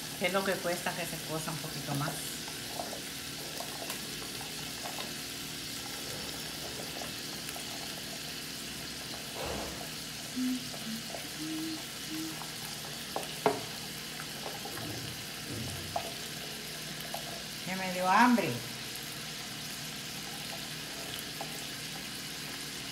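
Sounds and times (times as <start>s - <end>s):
noodles sizzling in a pan: 0.0s - 22.9s.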